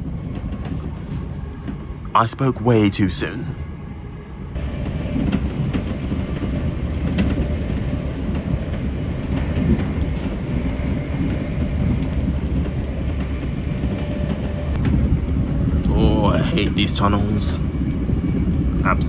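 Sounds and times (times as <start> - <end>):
train wheels rumbling on rail: 0.0 - 2.6, 3.9 - 19.0.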